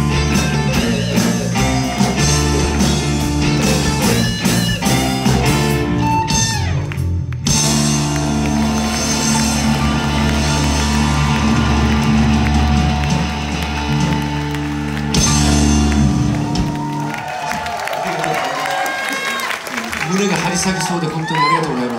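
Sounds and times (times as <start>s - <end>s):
live rock band playing: 0.0s - 17.8s.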